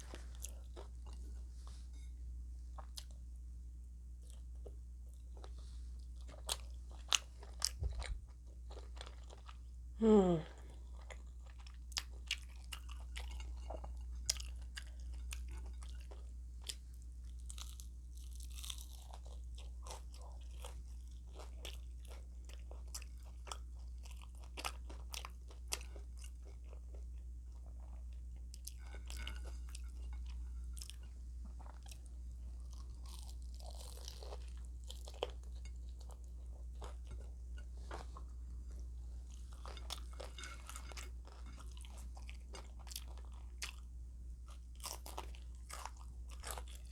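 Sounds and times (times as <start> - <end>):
person chewing and crunching food: 0.0 - 2.1, 2.7 - 3.2, 4.2 - 46.9
steady low hum: 0.0 - 46.9.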